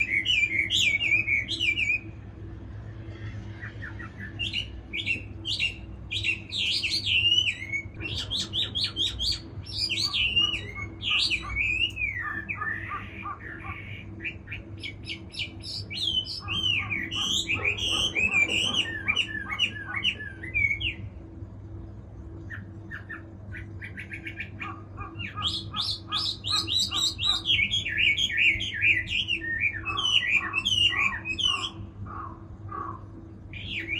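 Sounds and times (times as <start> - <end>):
bird singing whistled phrases: 0.0 - 2.1, 3.6 - 21.0, 23.8 - 31.8, 33.6 - 33.9.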